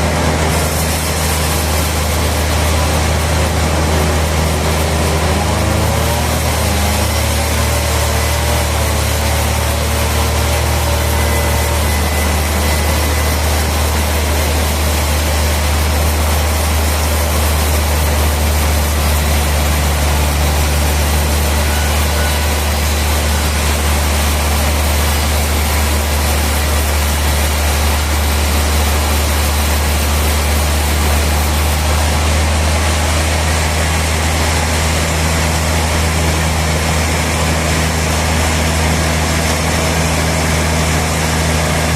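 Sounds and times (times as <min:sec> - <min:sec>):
sawmill machinery drone: 0:00.0 - 0:41.9.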